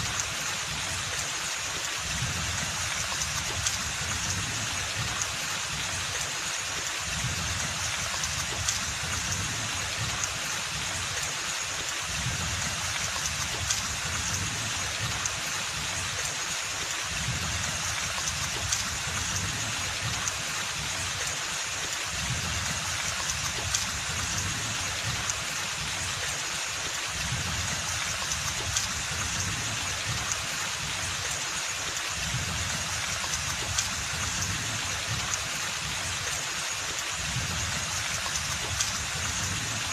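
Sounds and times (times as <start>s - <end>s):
rain on foliage: 0.0s - 39.9s
raindrops ticking: 0.1s - 39.9s.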